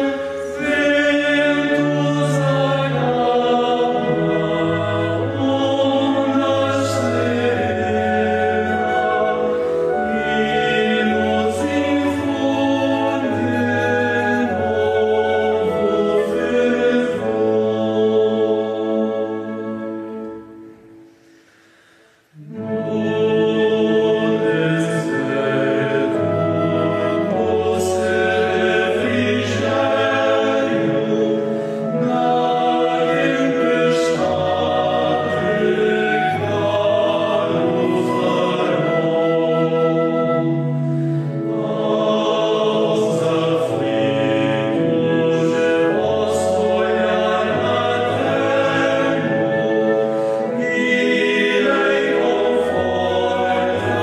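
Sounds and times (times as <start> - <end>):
male choir singing a hymn: 0.0 - 20.2, 22.4 - 54.0
flute: 0.0 - 54.0
pipe organ: 0.0 - 54.0.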